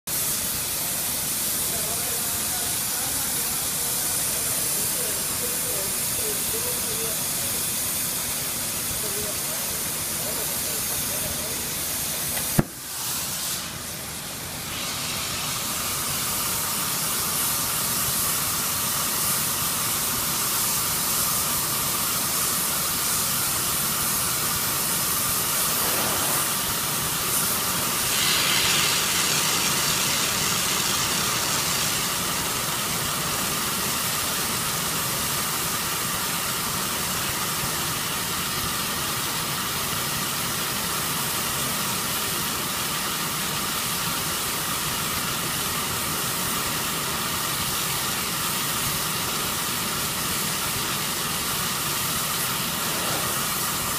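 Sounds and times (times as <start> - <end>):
torch flame hissing: 0.1 - 53.9.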